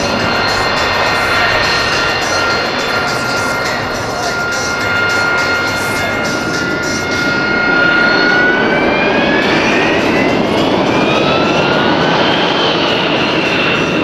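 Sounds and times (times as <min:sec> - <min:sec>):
jet engine whine: 0:00.0 - 0:14.0
jet noise rushing: 0:00.0 - 0:14.0.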